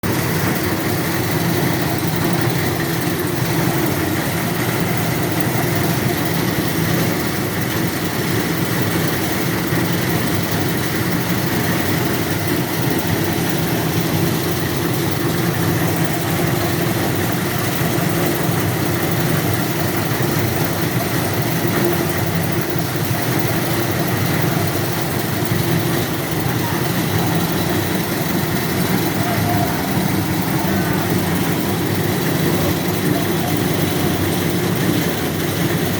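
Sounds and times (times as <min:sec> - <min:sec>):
heavy machinery engines droning: 0:00.0 - 0:35.9.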